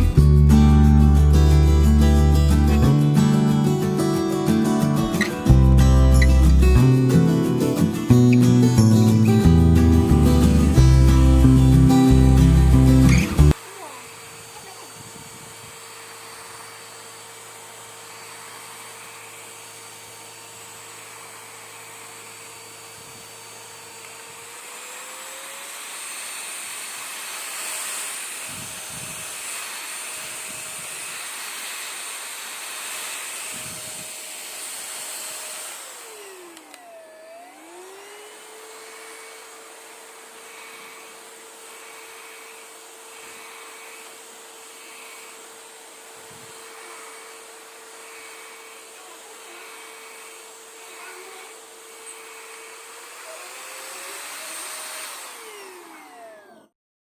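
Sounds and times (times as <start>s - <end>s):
stick vacuum motor whine: 0.0s - 56.8s.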